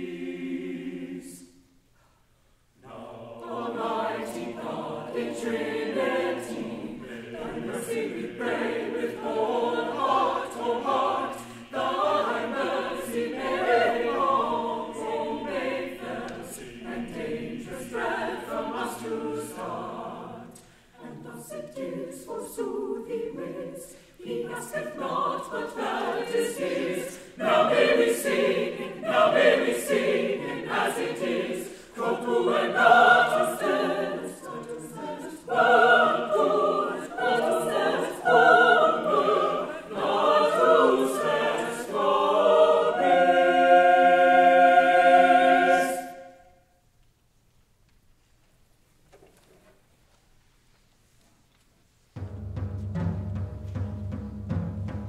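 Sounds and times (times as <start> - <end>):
mixed choir singing: 0.0 - 1.7, 2.8 - 46.7.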